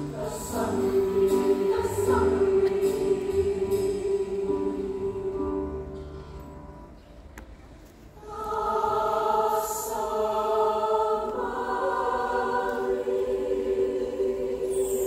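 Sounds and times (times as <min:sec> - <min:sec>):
choir singing in harmony: 0:00.0 - 0:06.6, 0:08.2 - 0:15.0.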